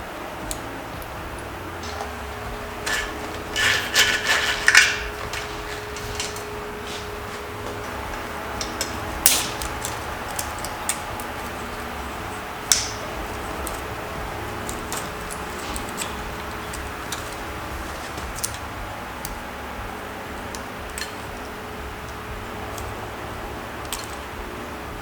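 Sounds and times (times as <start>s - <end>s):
faint steady hum: 0.0s - 25.0s
hand tools clinking on metal: 0.4s - 24.8s.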